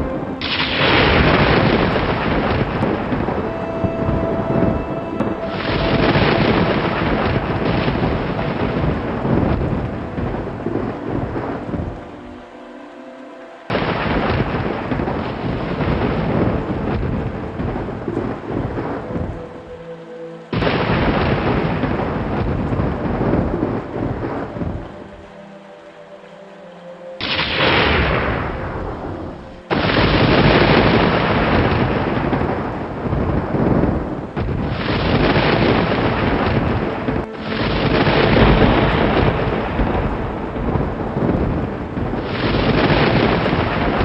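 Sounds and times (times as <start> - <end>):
thunder rumbling: 0.0 - 12.5, 13.7 - 25.4, 27.2 - 44.0
rain: 0.0 - 44.0
soft held music notes: 0.0 - 44.0.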